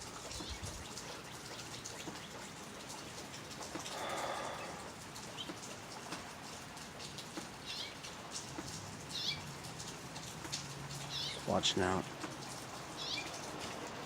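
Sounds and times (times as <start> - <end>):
steady rain falling: 0.0 - 14.0
water drips: 0.0 - 14.0.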